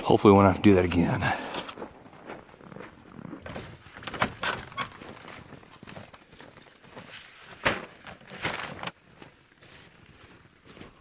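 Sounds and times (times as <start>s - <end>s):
gear rustling: 2.1s - 11.0s.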